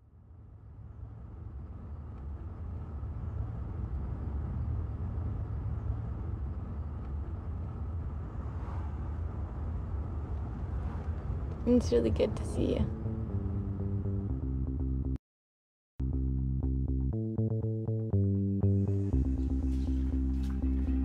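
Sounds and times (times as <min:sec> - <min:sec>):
car interior rumble: 0:00.2 - 0:14.8, 0:18.8 - 0:21.0.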